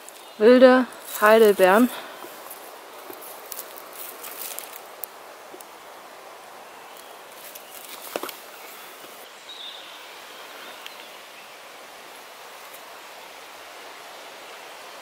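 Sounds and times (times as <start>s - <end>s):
leaves rustling: 0.0s - 15.0s
outdoor hiss: 0.0s - 15.0s.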